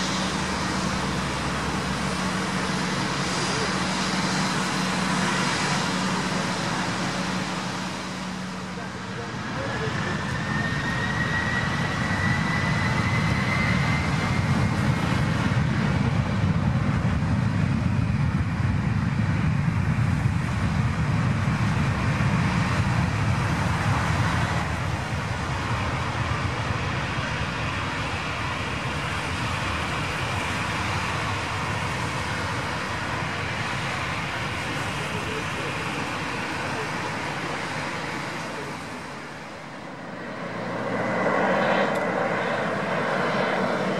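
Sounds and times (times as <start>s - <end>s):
jet engines spooling up whine: 0.0s - 43.9s
jet roar: 0.0s - 43.9s.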